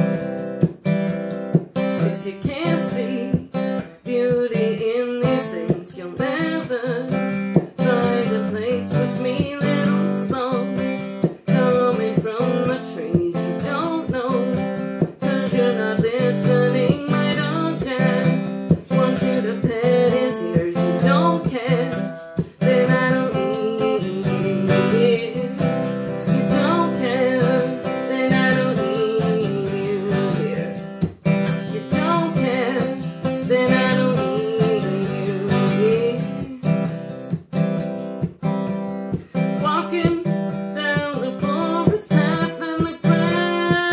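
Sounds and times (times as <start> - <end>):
acoustic guitar strumming: 0.0 - 43.9
woman singing: 1.5 - 43.9.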